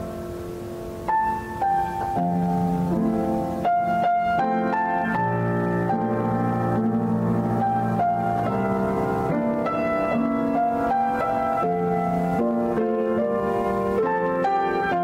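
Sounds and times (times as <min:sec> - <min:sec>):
solo grand piano: 0:00.0 - 0:15.0.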